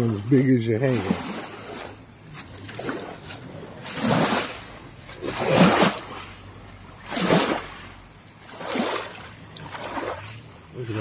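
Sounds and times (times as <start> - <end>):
small waves washing onto pebbles: 0.0 - 11.0.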